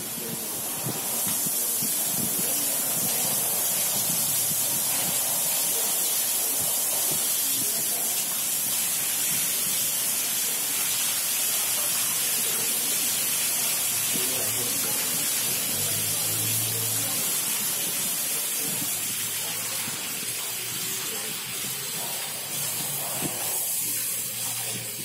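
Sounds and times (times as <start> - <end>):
heavy rain on stone steps: 0.0 - 25.0
water splashing: 0.0 - 25.0.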